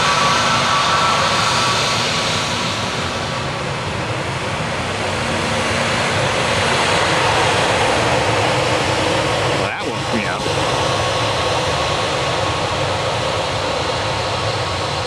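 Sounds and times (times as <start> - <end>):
high engine whine: 0.0 - 15.0
jet engines roaring: 0.0 - 15.0.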